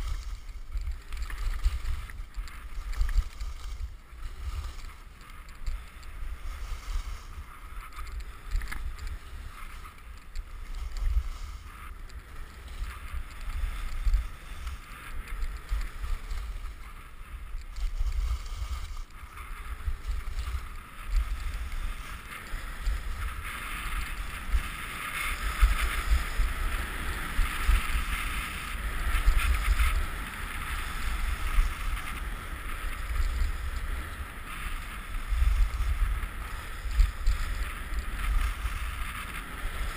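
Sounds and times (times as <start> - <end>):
skis hissing on snow: 0.0 - 39.9
wind rumbling on microphone: 0.0 - 39.9.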